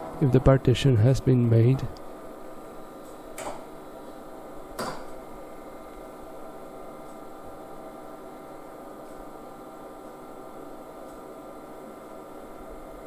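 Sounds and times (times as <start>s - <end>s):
computer hum: 0.0s - 13.0s.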